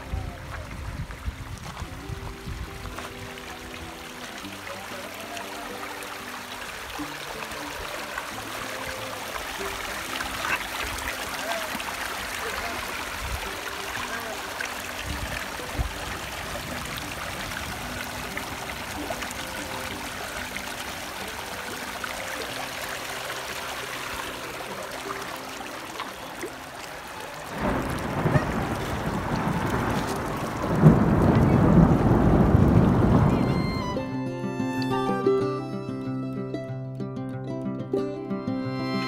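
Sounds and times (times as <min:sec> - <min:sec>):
water rushing in a stream: 0:00.0 - 0:37.0.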